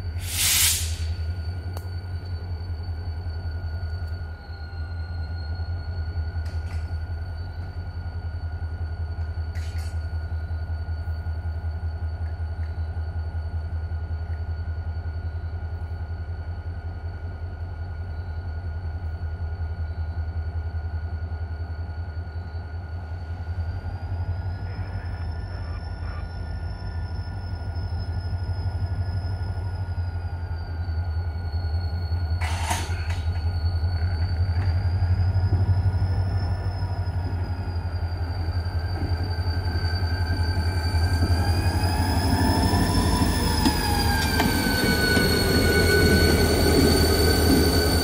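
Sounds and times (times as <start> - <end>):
diesel locomotive rumble: 0.0 - 48.0
thin high whine: 0.0 - 48.0.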